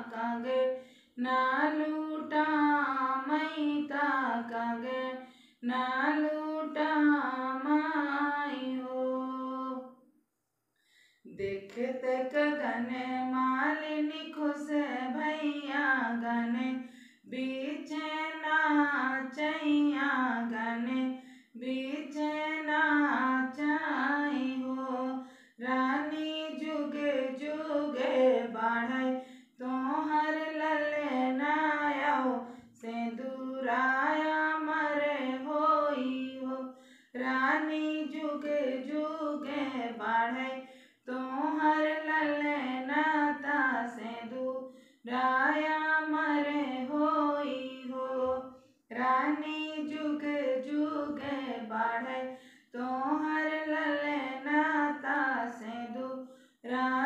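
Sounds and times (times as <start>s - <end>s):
woman singing unaccompanied folk song: 0.0s - 9.9s, 11.3s - 57.0s.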